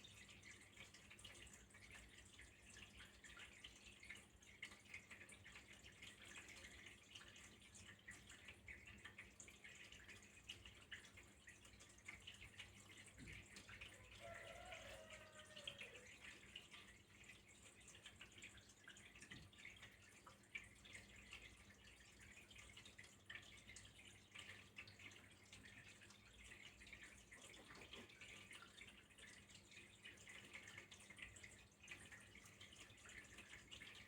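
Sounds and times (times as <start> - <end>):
water trickling and dripping: 0.0 - 34.0.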